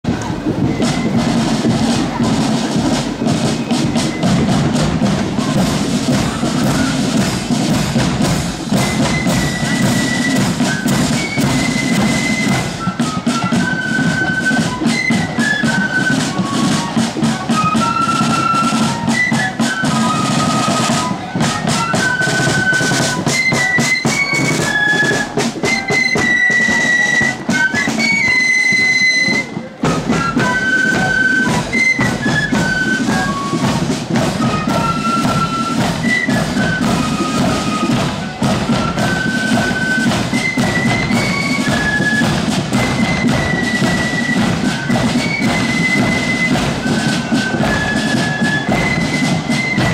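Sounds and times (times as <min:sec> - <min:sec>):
shrill flute melody: 0:00.0 - 0:49.9
side-drum beats: 0:00.0 - 0:49.9.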